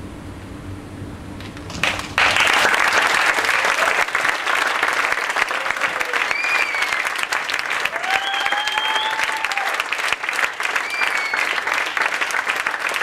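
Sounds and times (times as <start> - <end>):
audience applauding: 1.7 - 13.0.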